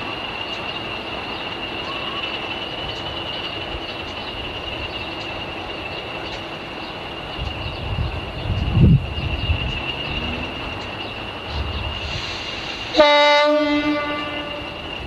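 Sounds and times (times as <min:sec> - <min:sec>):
diesel locomotive engines running: 0:00.0 - 0:15.0
rail noise: 0:00.0 - 0:15.0.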